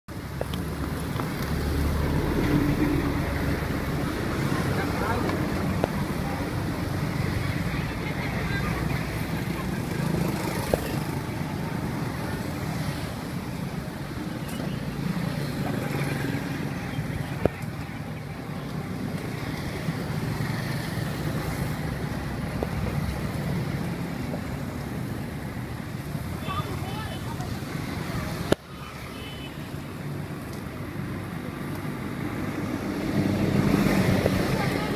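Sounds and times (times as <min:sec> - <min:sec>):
traffic rumble: 0:00.1 - 0:34.9.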